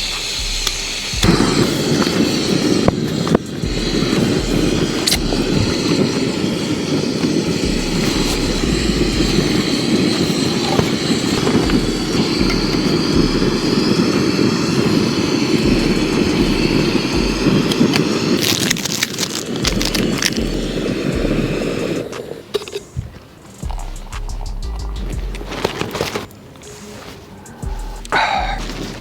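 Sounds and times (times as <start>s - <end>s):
wind buffeting microphone: 0.0s - 25.6s
crackling clicks: 0.0s - 29.0s.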